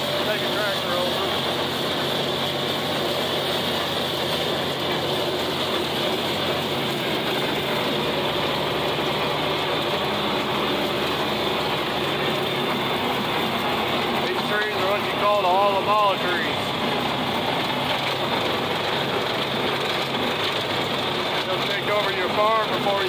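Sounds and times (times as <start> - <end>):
rotary cutter mowing: 0.0 - 23.0
tractor engine running under load: 0.0 - 23.0.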